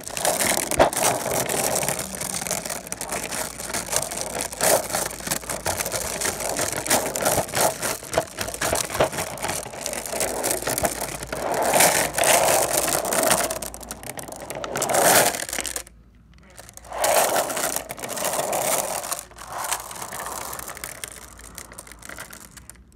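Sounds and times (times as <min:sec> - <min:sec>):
glass marbles rolling and clattering: 0:00.0 - 0:22.9.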